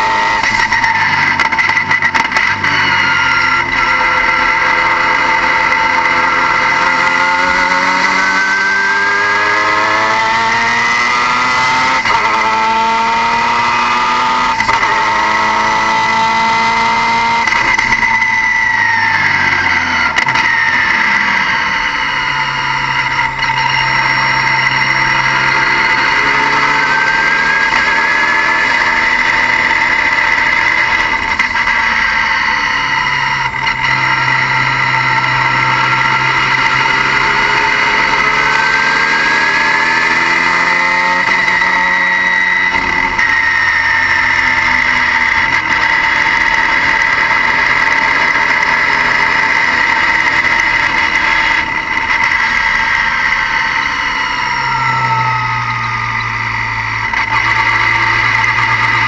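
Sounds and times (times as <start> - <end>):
high-pitched whine: 0.0 - 59.0.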